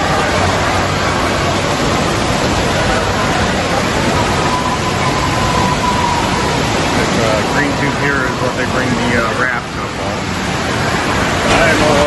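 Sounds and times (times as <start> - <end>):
water rushing in echoing hall: 0.0 - 12.0.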